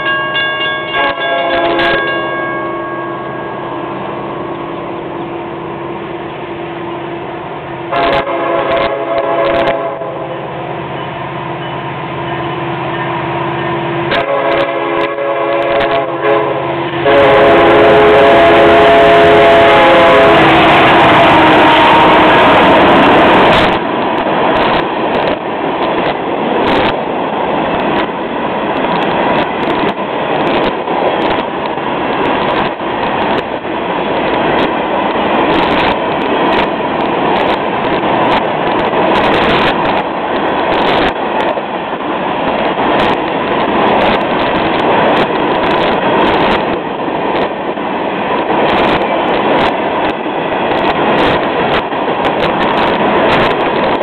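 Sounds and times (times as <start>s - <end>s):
train wheels rushing on rails: 0.0s - 54.0s.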